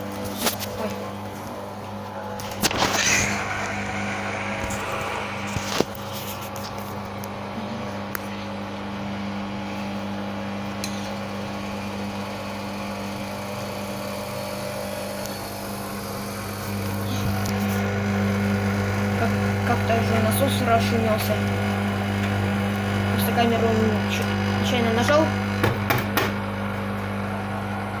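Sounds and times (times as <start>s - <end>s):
washing machine drain pump humming: 0.0s - 28.0s.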